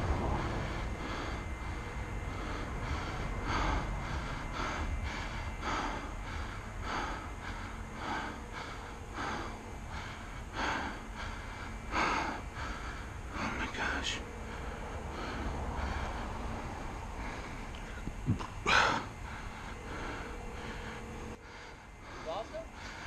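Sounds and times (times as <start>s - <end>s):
low wind rumble: 0.0s - 23.0s
person breathing hard: 0.0s - 23.0s.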